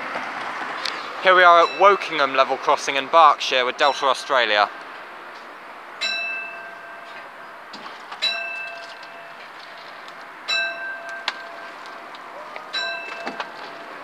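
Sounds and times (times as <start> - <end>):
level crossing warning bell: 1.3 - 4.8, 6.0 - 14.0.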